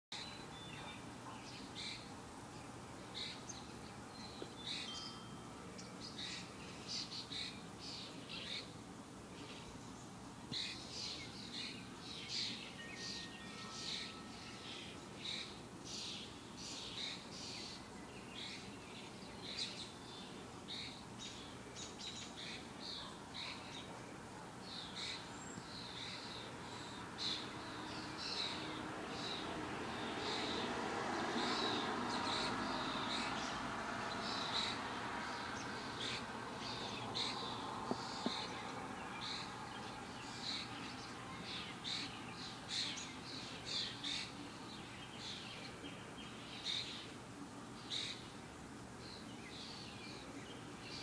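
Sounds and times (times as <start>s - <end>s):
birds chirping: 0.1s - 51.0s.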